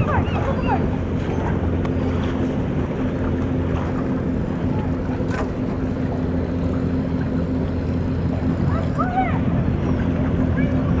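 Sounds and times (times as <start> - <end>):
ship diesel engines droning: 0.0 - 11.0.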